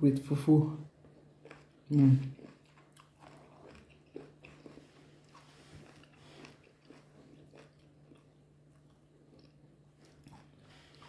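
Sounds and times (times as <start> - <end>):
chewing and mouth smacks: 0.9 - 11.0.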